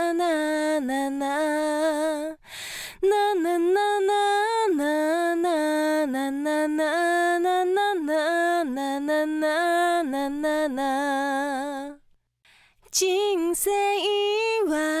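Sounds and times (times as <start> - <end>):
woman singing unaccompanied: 0.0 - 2.4, 3.0 - 12.0, 12.9 - 15.0.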